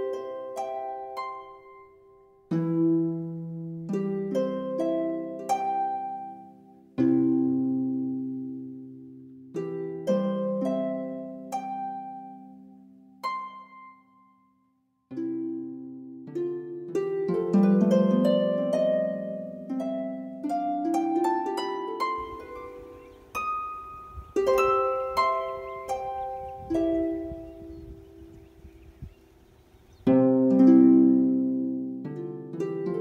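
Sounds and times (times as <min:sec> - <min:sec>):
plucked strings music: 0:00.0 - 0:14.1, 0:15.1 - 0:29.2, 0:29.8 - 0:33.0.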